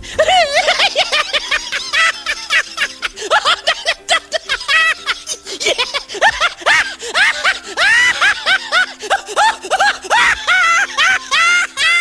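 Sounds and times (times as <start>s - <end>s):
background music: 0.0s - 12.0s
high-pitched cartoon laughter: 0.2s - 12.0s.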